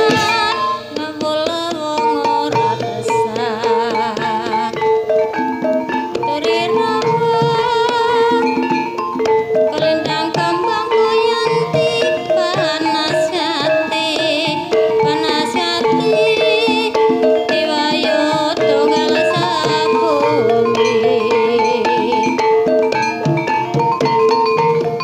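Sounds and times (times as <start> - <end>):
drums beating: 0.0 - 25.0.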